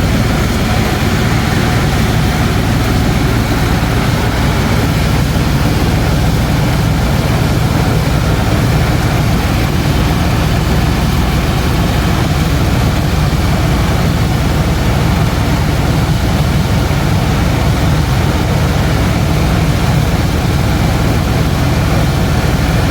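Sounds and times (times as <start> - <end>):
helicopter engine and rotor: 0.0 - 22.9.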